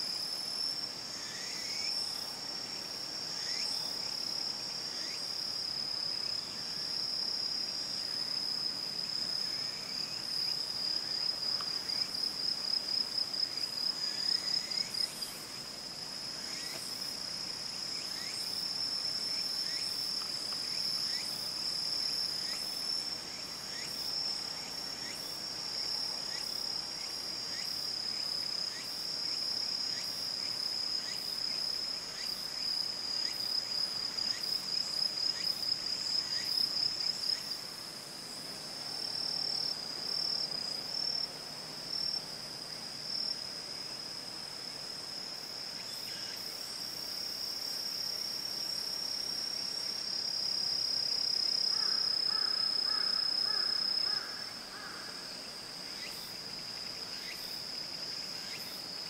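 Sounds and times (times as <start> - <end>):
insect high-pitched trill: 0.0 - 44.1, 44.9 - 59.0
insect chirps: 0.0 - 59.0.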